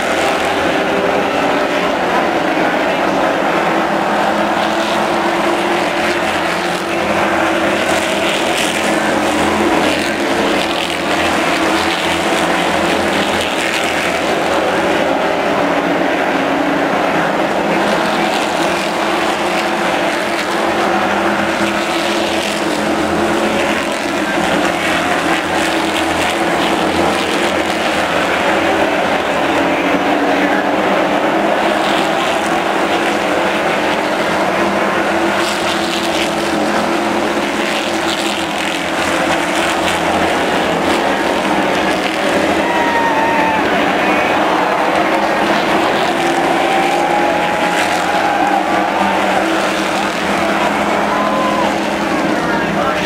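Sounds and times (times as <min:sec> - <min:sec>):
race car engines roaring: 0:00.0 - 0:53.0.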